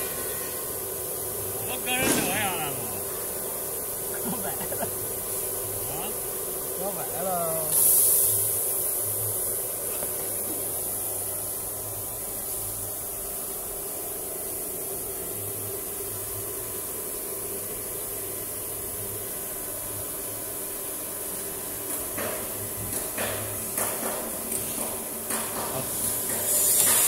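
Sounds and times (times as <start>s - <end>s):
machinery hiss: 0.0s - 27.0s.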